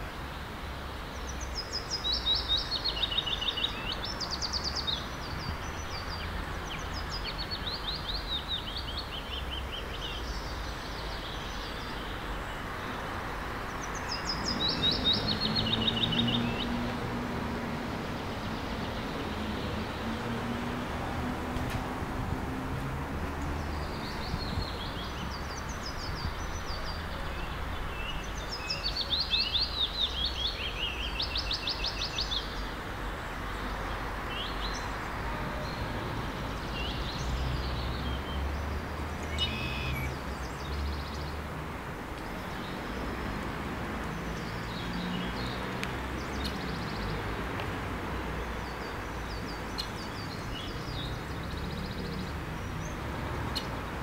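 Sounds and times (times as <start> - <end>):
outdoor background hiss: 0.0 - 54.0
songbirds chirping and trilling: 0.0 - 54.0.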